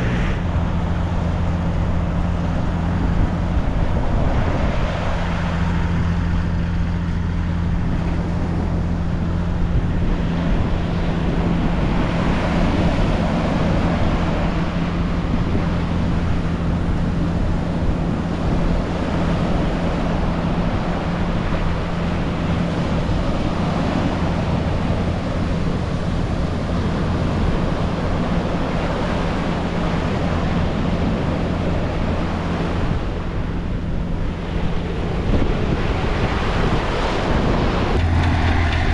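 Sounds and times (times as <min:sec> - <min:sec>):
boat engine humming: 0:00.0 - 0:38.9
sea wash: 0:00.0 - 0:38.9
wind noise on microphone: 0:00.0 - 0:38.9.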